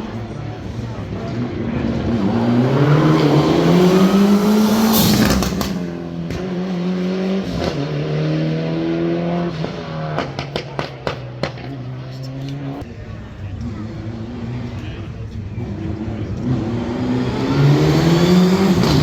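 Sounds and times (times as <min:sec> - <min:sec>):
rally car engine accelerating: 0:00.0 - 0:19.0.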